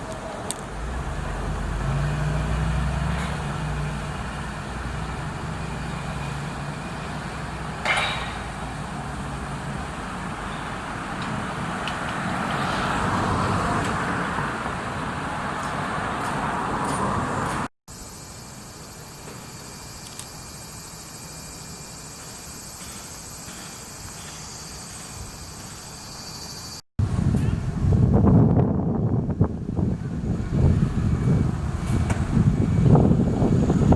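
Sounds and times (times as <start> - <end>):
passing road traffic: 0.0 - 33.9
steady outdoor hum: 0.0 - 33.9.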